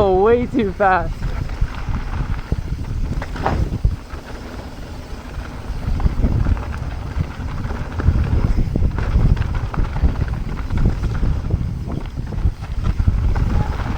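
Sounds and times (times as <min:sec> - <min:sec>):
bike knocking and rattling: 0:00.0 - 0:13.9
low rumble of bike tyres: 0:00.0 - 0:13.9
wind buffeting microphone: 0:00.0 - 0:13.9.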